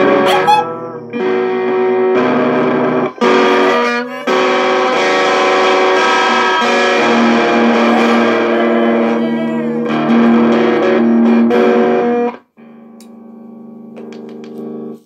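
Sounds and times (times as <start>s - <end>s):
electric guitar chords ringing: 0.0s - 15.0s.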